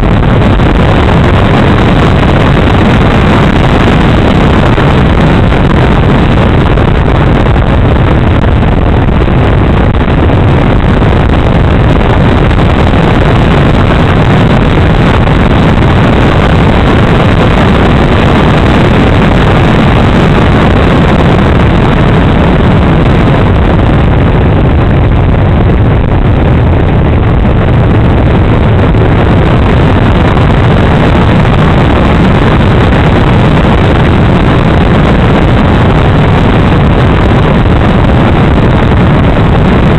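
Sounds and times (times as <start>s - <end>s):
airflow rushing: 0.0s - 39.9s.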